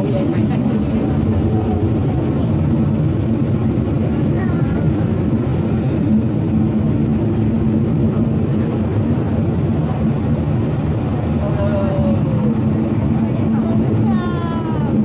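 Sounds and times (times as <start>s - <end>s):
faint voices: 0.0s - 6.5s, 7.6s - 15.0s
funicular car rumble and hum: 0.0s - 15.0s.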